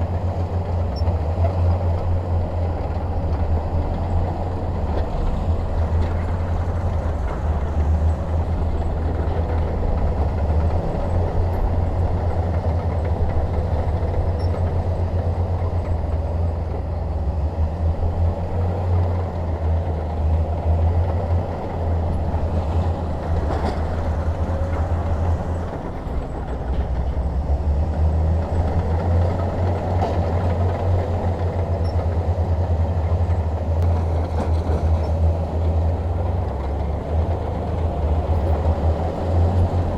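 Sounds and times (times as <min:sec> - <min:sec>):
bulldozer diesel engine rumbling: 0:00.0 - 0:39.9.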